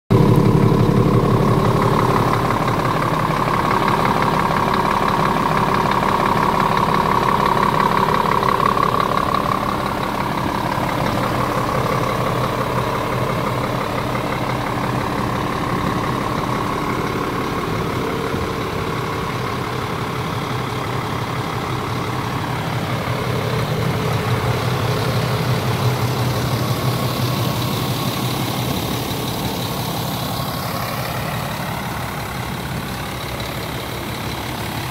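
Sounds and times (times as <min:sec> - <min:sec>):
diesel truck engine idling: 0:00.0 - 0:34.9
high whine: 0:00.1 - 0:34.9.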